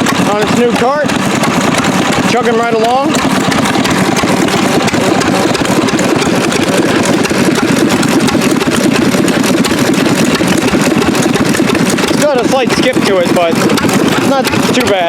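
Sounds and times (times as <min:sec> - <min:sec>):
stationary gas engine chugging: 0:00.0 - 0:15.0.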